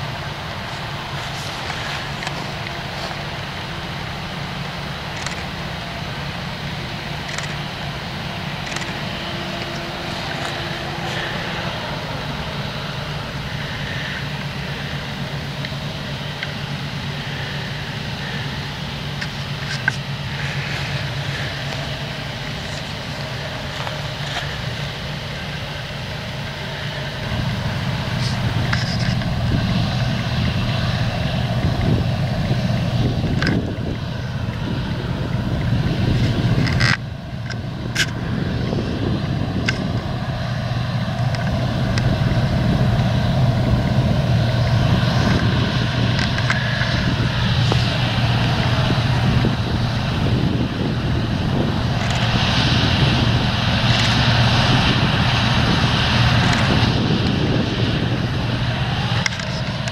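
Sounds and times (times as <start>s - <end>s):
combine harvester engine drone: 0.0s - 59.9s.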